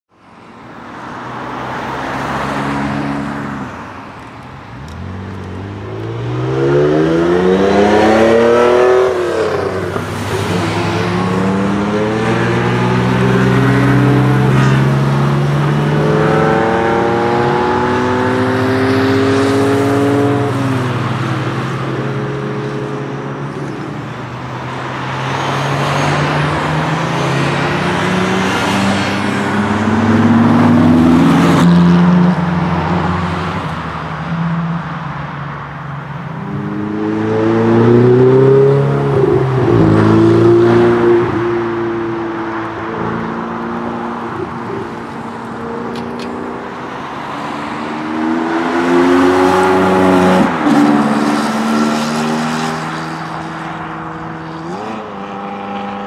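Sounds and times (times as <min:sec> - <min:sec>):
sports car engines revving: 0:00.9 - 0:56.0.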